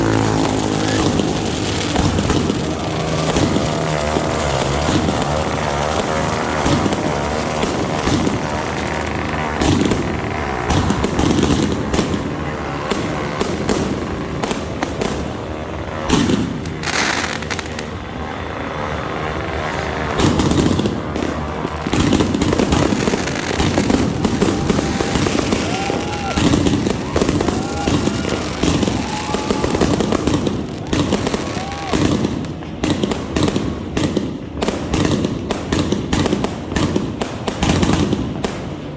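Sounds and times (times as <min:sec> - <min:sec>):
firework hiss: 0:00.0 - 0:38.9
fireworks popping and banging: 0:00.0 - 0:38.9.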